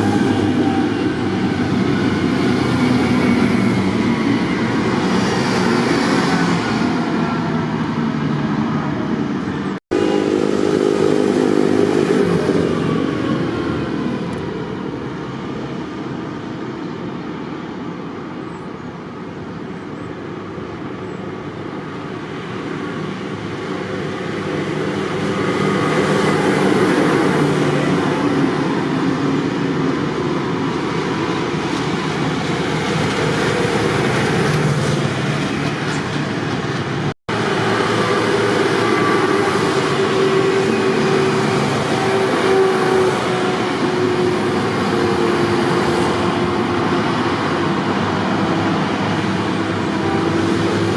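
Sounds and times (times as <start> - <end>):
tractor engines passing by: 0.0 - 50.9.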